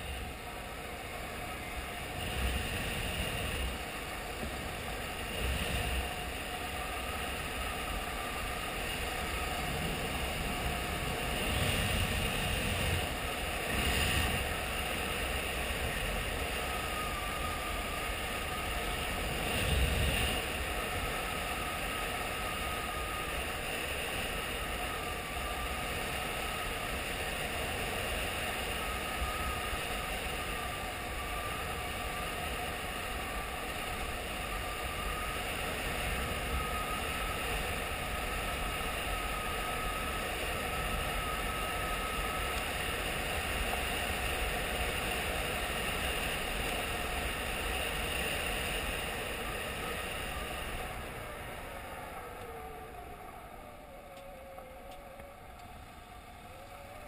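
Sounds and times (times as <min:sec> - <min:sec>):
wind rushing on microphone: 0:00.0 - 0:53.8.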